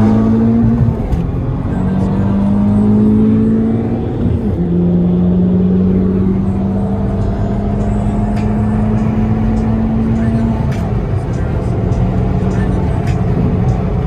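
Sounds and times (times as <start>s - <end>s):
car engine driving: 0.0s - 14.0s.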